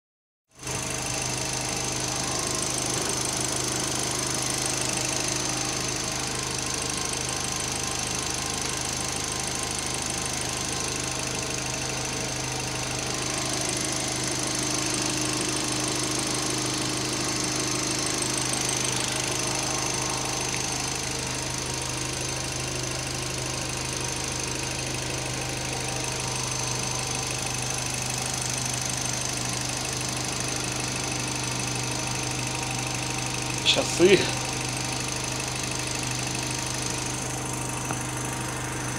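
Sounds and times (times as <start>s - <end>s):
car engine idling: 0.8s - 38.9s.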